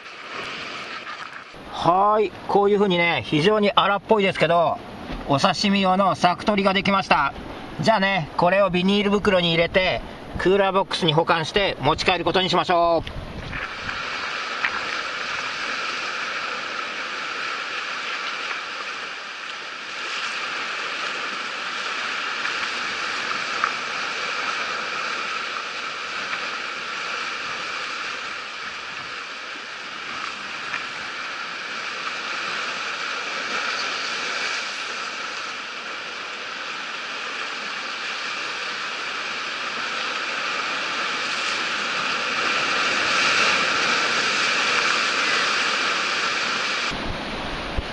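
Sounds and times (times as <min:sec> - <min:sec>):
sea waves breaking on rocks: 0:00.0 - 0:47.9.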